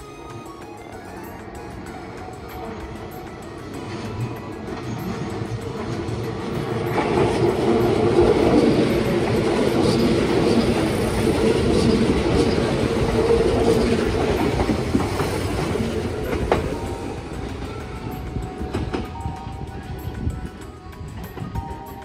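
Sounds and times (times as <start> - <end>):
train wheels rumbling on rail: 1.1 - 21.9.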